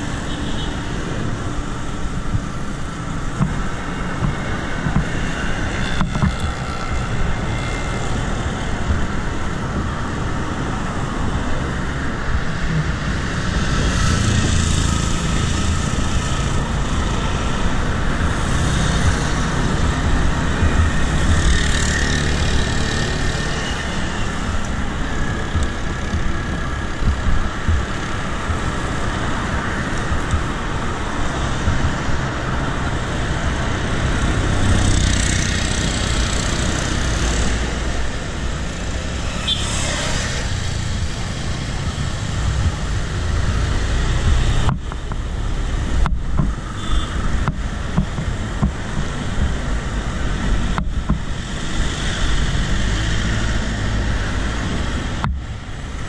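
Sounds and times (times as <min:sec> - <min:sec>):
road traffic rumble: 0:00.0 - 0:56.0
vehicles passing: 0:00.0 - 0:56.0.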